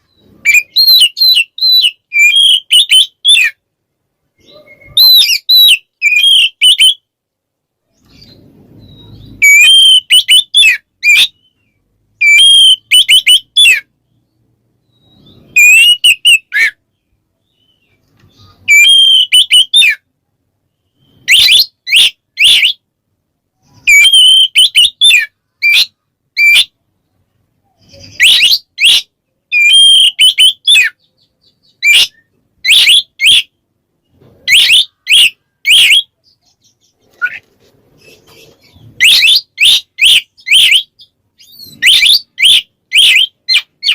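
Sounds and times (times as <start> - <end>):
magpie-robin singing: 0.0 - 3.6, 4.4 - 7.0, 7.9 - 22.9, 23.6 - 43.9.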